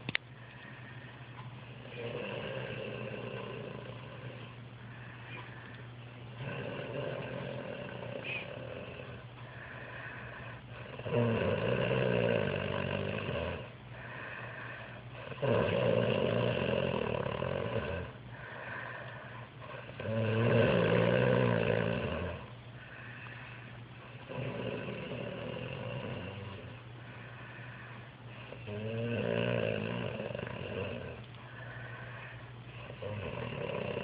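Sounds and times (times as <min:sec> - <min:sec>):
quiet breathing: 0:00.0 - 0:34.0
man snoring: 0:01.8 - 0:04.5, 0:06.3 - 0:19.1, 0:19.7 - 0:23.2, 0:24.2 - 0:27.4, 0:28.4 - 0:32.2, 0:32.8 - 0:34.0.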